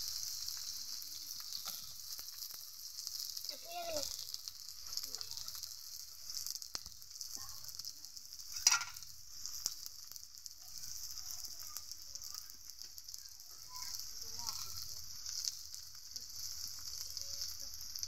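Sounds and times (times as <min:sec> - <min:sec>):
fritters sizzling in oil: 0:00.0 - 0:18.0
oil crackling: 0:00.0 - 0:18.0.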